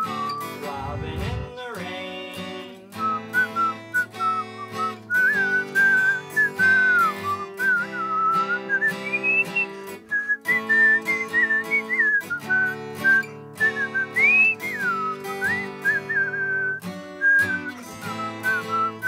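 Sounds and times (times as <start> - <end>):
person whistling a tune: 0.0 - 1.8, 2.8 - 19.0
strummed acoustic guitar: 0.0 - 19.0.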